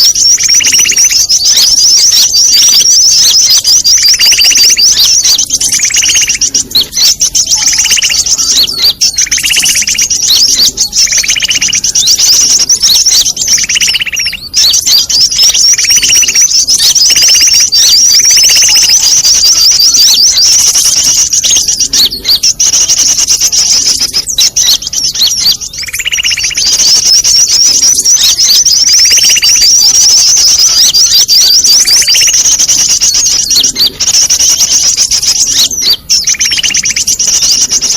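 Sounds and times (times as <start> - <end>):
songbirds chattering and trilling: 0.0 - 37.9.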